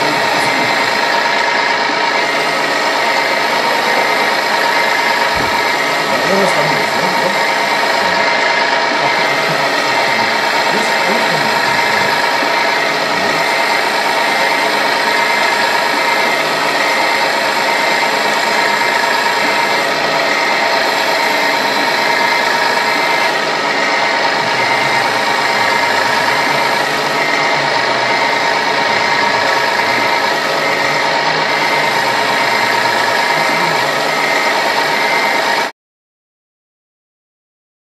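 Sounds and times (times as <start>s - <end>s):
small motors whining and rattling: 0.0s - 35.7s.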